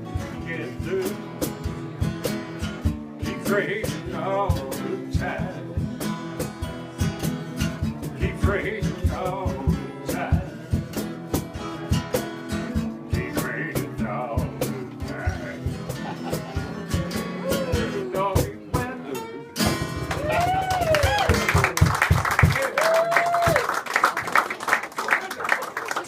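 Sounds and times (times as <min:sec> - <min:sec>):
acoustic guitar music: 0:00.0 - 0:22.5.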